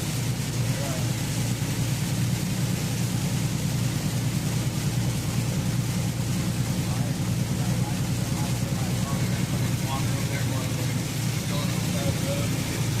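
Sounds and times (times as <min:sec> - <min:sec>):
rain: 0:00.0 - 0:13.0
truck engine drone: 0:00.0 - 0:13.0
tyres hissing on wet pavement: 0:00.0 - 0:13.0.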